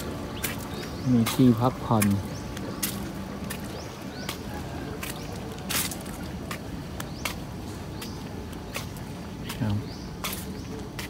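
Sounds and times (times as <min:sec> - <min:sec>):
footsteps on paved path: 0:00.0 - 0:11.0
low background noise: 0:00.0 - 0:11.0.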